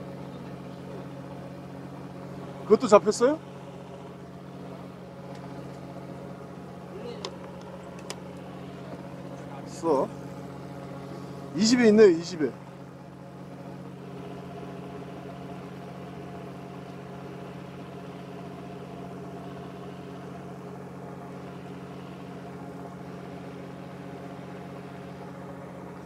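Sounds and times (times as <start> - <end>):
boat engine humming: 0.0 - 26.0.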